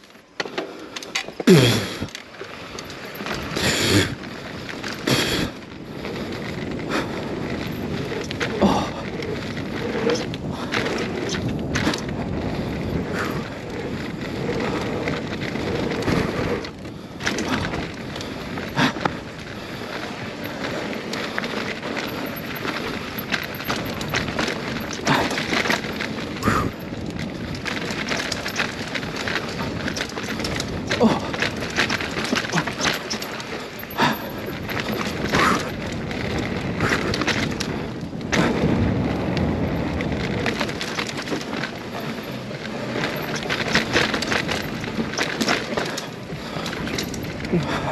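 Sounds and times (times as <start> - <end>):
bike clattering over bumps: 0.0 - 47.9
tyres rushing on dirt: 0.0 - 47.9.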